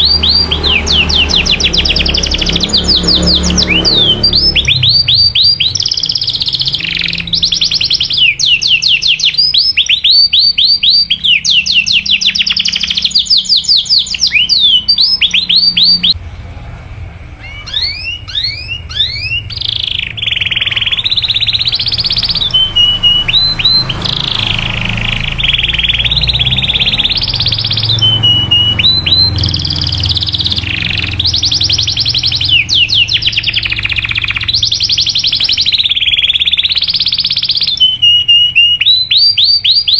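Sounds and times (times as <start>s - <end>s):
canary singing chirps and trills: 0.0s - 16.2s, 17.3s - 39.9s.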